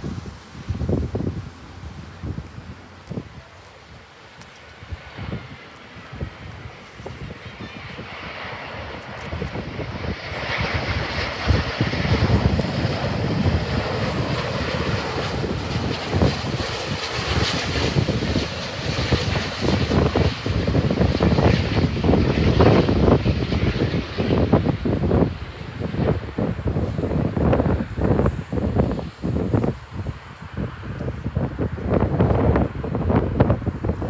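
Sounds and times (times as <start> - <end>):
jet engines running loud: 0.0 - 34.0
wind buffeting microphone: 0.0 - 34.0.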